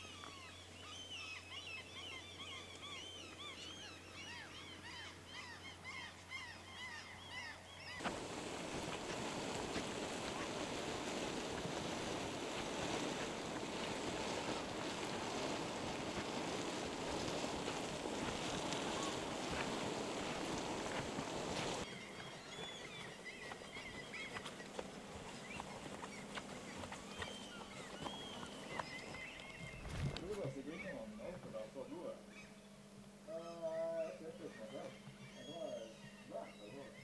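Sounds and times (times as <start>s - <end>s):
low steady hum: 0.0s - 37.0s
small birds chirping: 0.0s - 37.0s.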